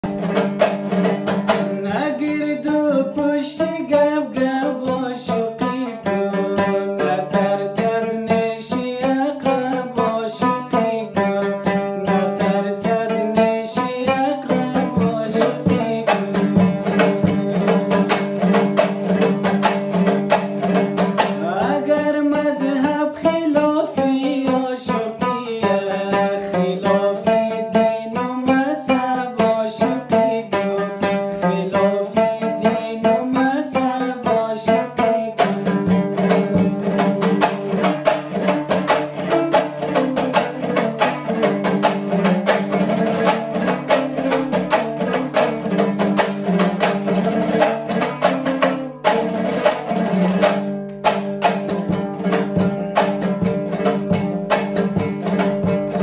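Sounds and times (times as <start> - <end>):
lute strummed fast: 0.0 - 56.0.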